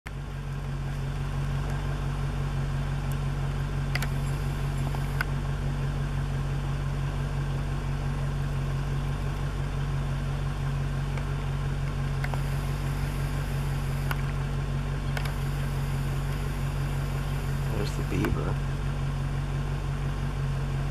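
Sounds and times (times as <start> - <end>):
engine idling hum: 0.1 - 20.9.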